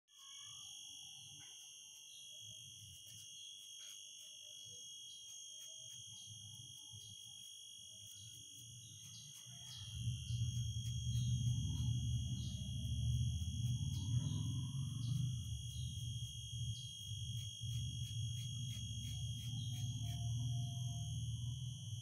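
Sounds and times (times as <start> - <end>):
high-pitched whine: 0.1 - 22.0.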